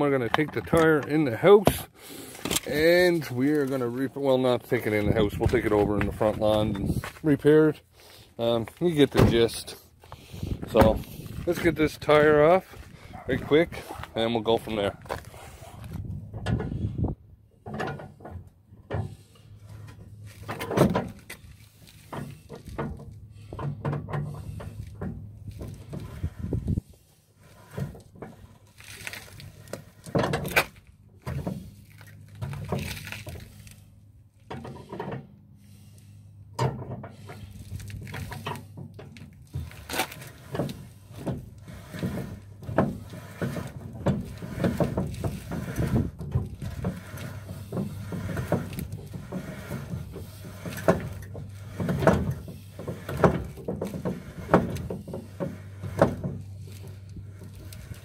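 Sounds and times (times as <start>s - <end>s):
steady low hum: 0.6s - 58.0s.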